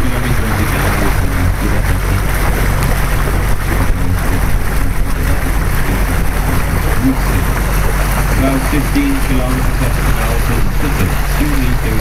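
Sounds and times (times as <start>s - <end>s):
boat motor droning: 0.0s - 12.0s
rushing water: 0.0s - 12.0s
wind noise: 0.0s - 12.0s.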